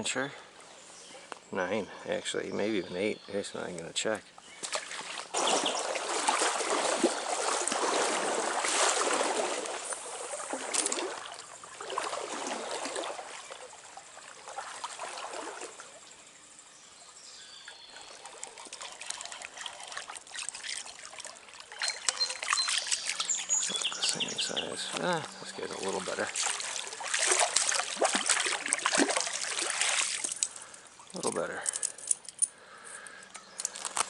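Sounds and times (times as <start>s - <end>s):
stream water trickling: 0.0s - 34.0s
small sharp splashes and ticks: 3.7s - 32.0s.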